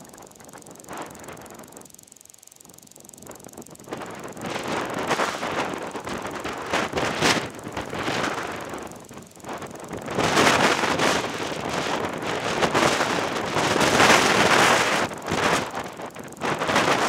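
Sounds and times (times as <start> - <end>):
gusty wind buffeting microphone: 2.7 - 17.0.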